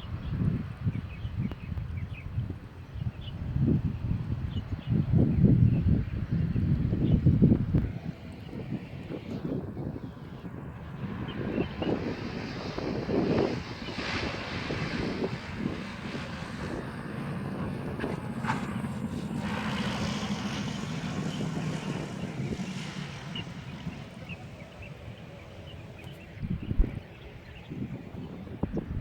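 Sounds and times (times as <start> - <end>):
jet engines humming: 0.0 - 29.0
wind noise on microphone: 0.0 - 29.0.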